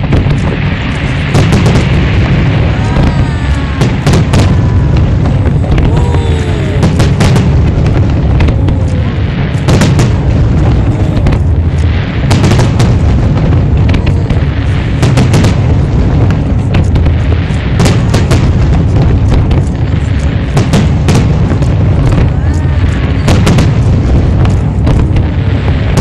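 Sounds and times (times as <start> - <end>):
fireworks booming: 0.0 - 26.0
sharp firework cracks: 0.0 - 26.0.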